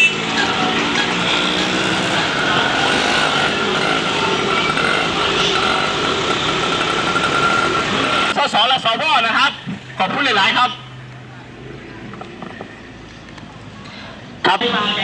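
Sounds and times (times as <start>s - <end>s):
vehicles driving past: 0.0s - 15.0s.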